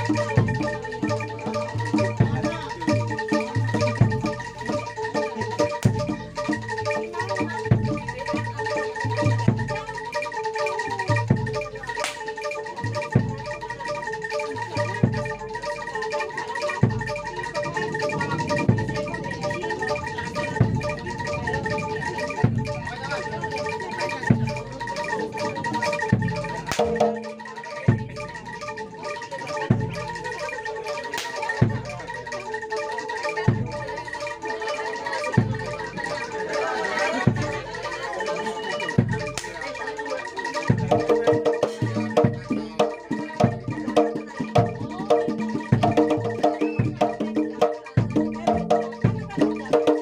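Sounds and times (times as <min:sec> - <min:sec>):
deep drum beats: 0:00.0 - 0:50.0
metallophones interlocking pattern: 0:00.0 - 0:50.0.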